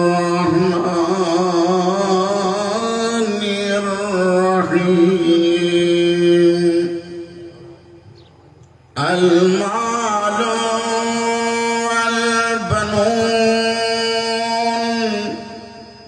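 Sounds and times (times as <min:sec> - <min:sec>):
man chanting recitation: 0:00.0 - 0:08.3, 0:08.9 - 0:16.0.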